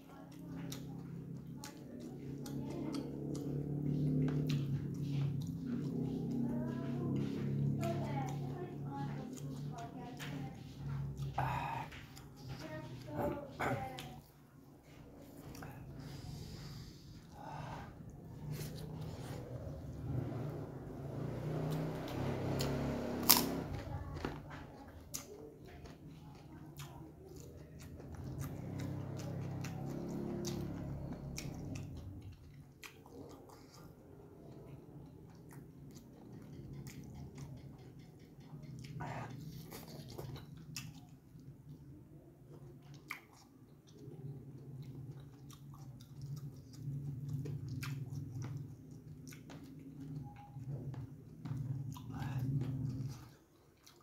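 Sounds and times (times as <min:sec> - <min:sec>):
man chewing food: 0:00.0 - 0:54.0.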